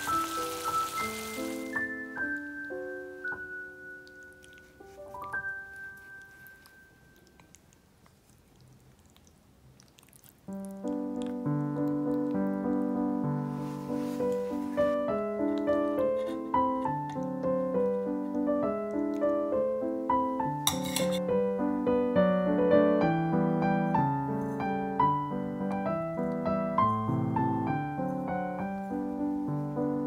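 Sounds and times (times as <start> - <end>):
solo piano music: 0.0 - 7.4, 10.5 - 30.0.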